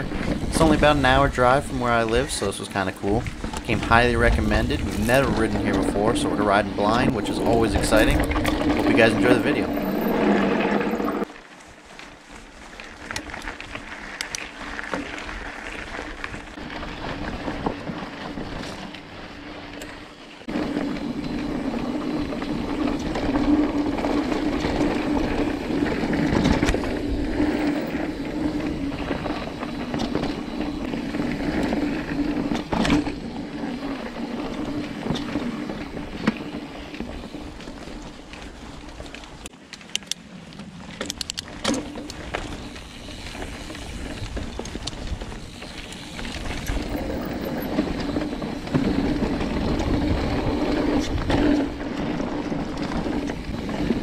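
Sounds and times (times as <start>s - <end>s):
bike chain and frame rattling: 0.0s - 54.0s
bike tyres rolling over dirt: 0.0s - 54.0s.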